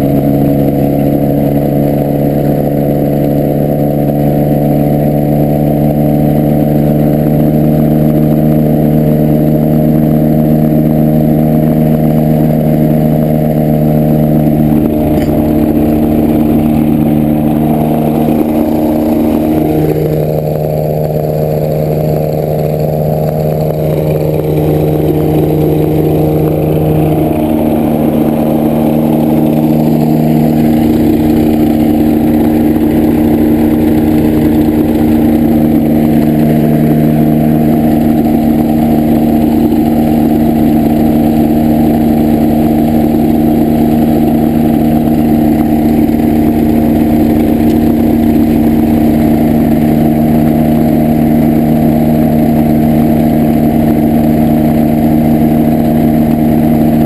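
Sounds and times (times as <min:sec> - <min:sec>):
powered parachute engine running: 0:00.0 - 0:57.0.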